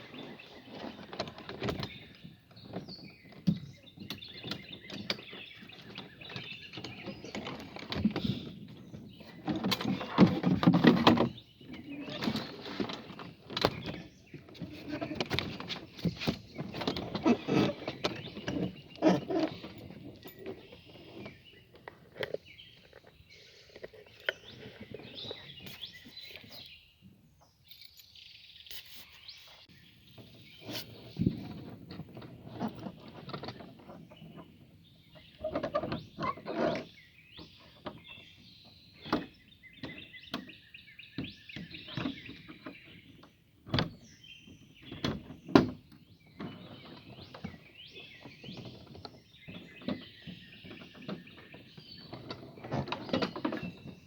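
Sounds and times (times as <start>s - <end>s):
birds chirping: 0.0s - 54.0s
knocks and clunks of handling: 0.1s - 26.6s, 30.1s - 54.0s.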